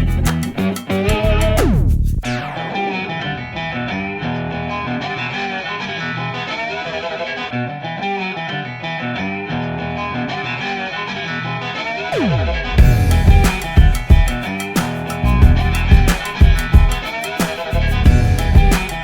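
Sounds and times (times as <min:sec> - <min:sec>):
distorted electric guitar: 0:00.0 - 0:19.0
guitar background music: 0:00.0 - 0:19.0.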